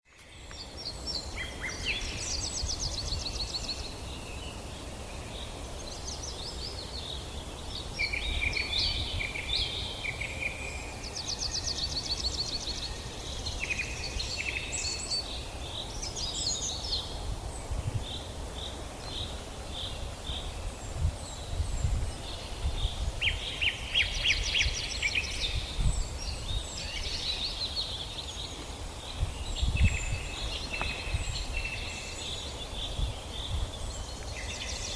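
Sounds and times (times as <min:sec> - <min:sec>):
birds singing and calling: 0:00.0 - 0:34.9.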